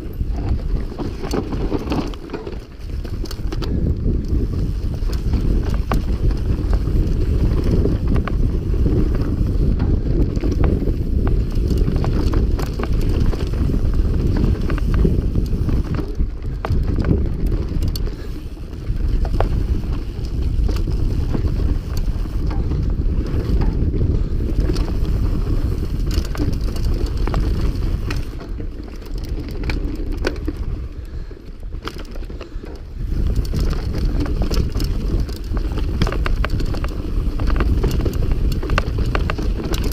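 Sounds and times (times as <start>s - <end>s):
bike rattling clicks: 0.0s - 39.9s
bike tyres rumbling on dirt: 0.0s - 39.9s
wind on microphone: 0.0s - 39.9s.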